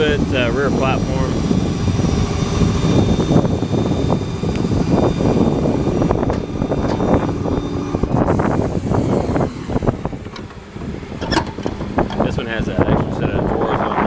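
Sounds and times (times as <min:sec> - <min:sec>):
air compressor running: 0:00.0 - 0:13.3.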